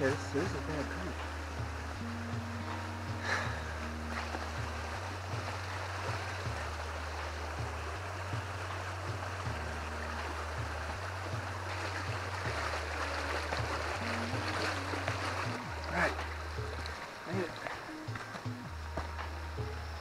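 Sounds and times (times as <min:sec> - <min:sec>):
creek water rushing: 0:00.0 - 0:20.0
low pulsing hum: 0:00.0 - 0:20.0.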